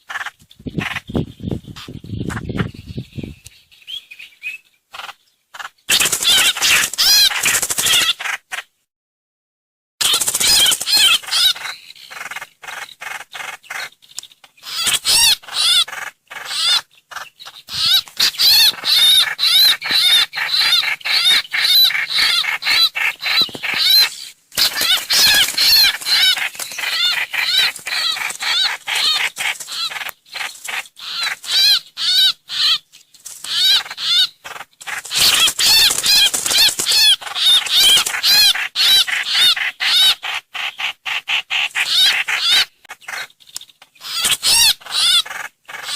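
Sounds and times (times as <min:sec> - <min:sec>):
bird chirping: 0:00.0 - 0:08.6, 0:10.0 - 0:45.9.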